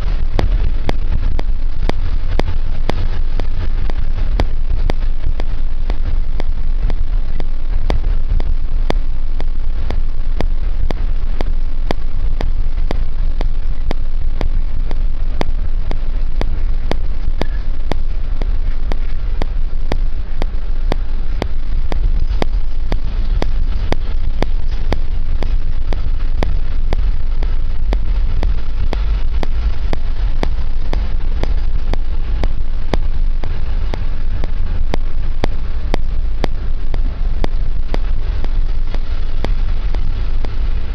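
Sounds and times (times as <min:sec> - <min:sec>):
engine and road rumble: 0:00.0 - 0:40.9.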